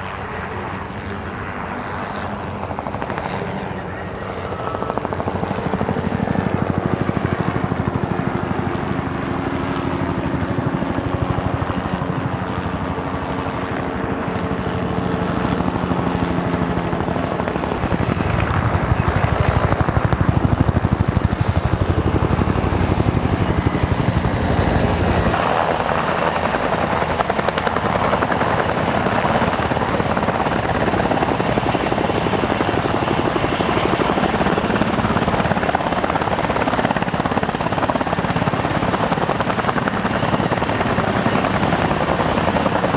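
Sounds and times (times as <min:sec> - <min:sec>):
helicopter engine and rotor noise: 0:00.0 - 0:42.9
helicopter hovering close by: 0:00.0 - 0:42.9
high turbine whine: 0:00.0 - 0:42.9.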